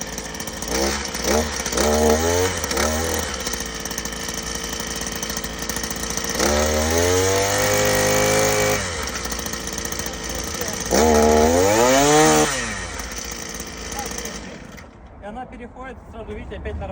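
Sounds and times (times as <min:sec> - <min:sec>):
brushcutter engine revving and idling: 0:00.0 - 0:15.0.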